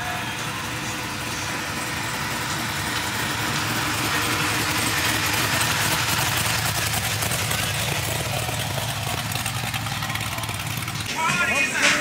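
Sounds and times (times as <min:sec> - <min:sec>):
car engine rolling slowly by: 0:00.0 - 0:12.0.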